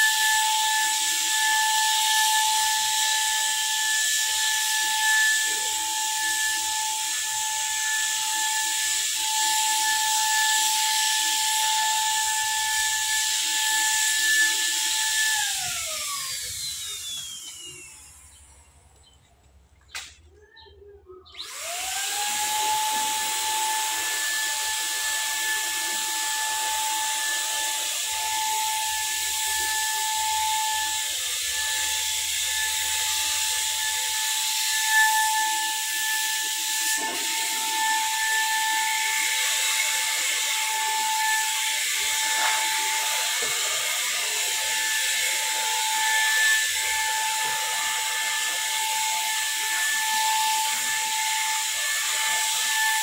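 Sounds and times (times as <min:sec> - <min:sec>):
paint spray gun motor whine: 0:00.0 - 0:18.8, 0:21.4 - 0:53.0.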